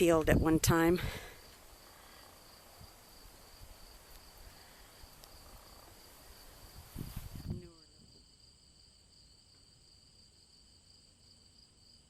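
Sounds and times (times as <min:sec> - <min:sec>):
insects chirring: 0:00.3 - 0:12.0.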